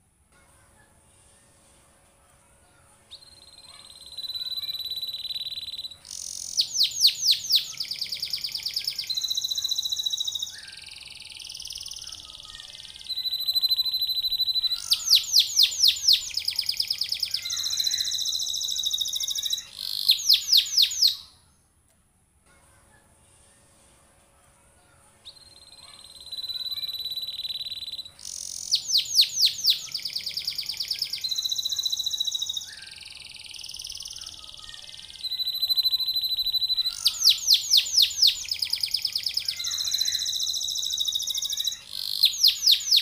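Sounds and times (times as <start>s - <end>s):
canary singing: 3.1s - 21.5s, 25.2s - 43.0s.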